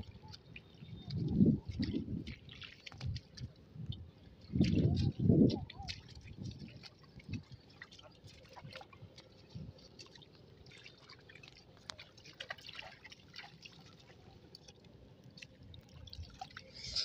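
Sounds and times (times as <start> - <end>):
wading through wet grass: 0.1 - 17.0.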